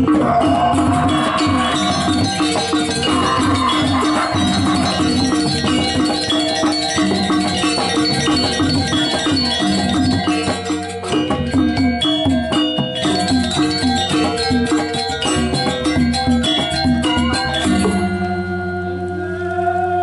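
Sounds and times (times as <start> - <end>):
cymbals clashing: 0.0 - 19.1
gong-chimes and metallophones: 0.0 - 20.0.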